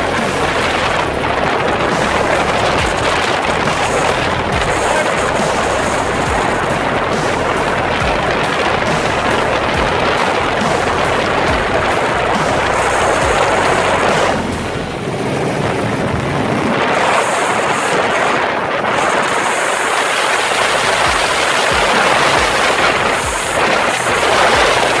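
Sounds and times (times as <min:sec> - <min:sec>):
helicopter engine and rotor rushing: 0:00.0 - 0:25.0
low rotor thudding: 0:00.0 - 0:25.0.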